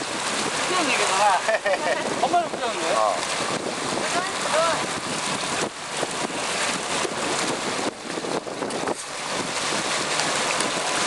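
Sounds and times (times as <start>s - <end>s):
water rushing past boat: 0.0s - 11.0s
wind buffeting microphone: 0.0s - 11.0s.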